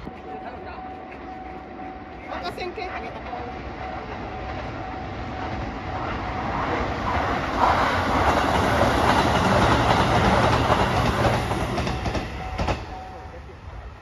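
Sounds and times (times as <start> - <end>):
electric train running noise: 0.0 - 14.0.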